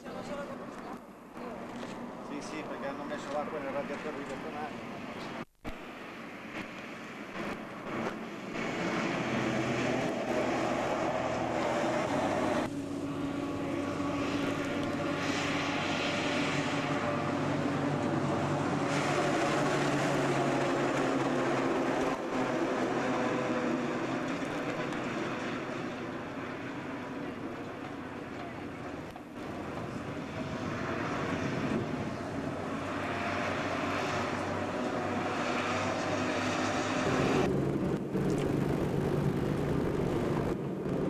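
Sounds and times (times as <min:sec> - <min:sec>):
diesel trucks engine drone: 0:00.0 - 0:41.0
low hum: 0:05.2 - 0:41.0.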